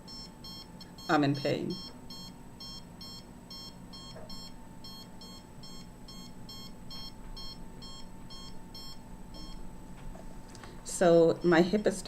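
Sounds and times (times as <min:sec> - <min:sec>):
high electronic alarm beeps: 0:00.0 - 0:09.6, 0:11.3 - 0:11.8.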